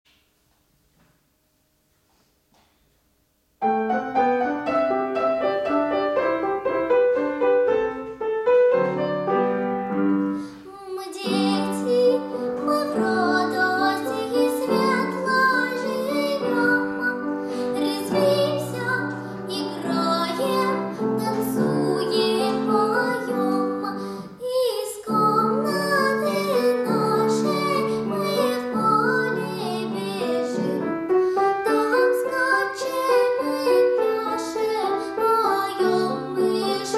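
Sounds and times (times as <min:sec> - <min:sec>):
upright piano: 0:03.6 - 0:36.9
girl singing classical style: 0:04.6 - 0:36.9.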